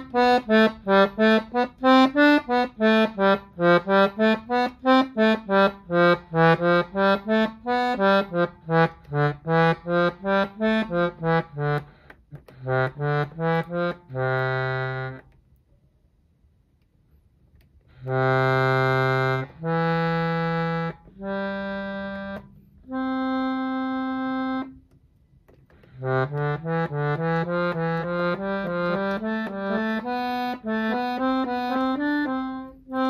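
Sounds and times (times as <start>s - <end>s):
accordion notes: 0.0s - 15.5s, 17.8s - 33.0s.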